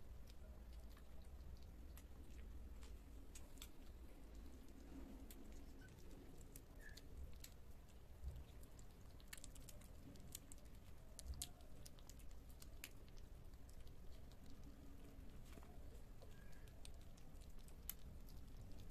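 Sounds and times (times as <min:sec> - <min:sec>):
kittens lapping and chewing: 0:00.0 - 0:18.9.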